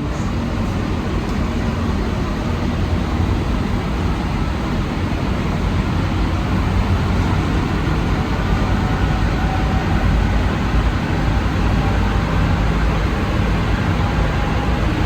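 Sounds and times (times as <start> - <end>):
metro car running rumble: 0.0 - 15.0.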